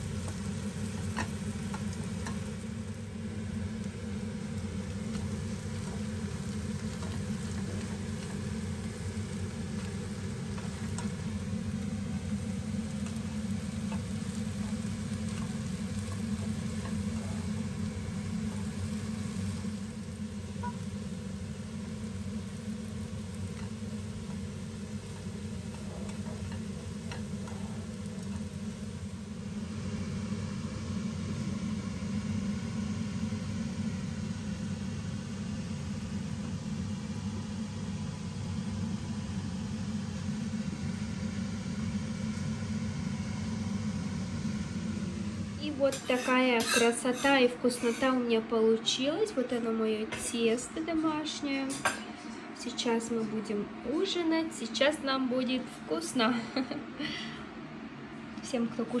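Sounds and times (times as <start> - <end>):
egg sizzling in a pan: 0.0 - 48.2.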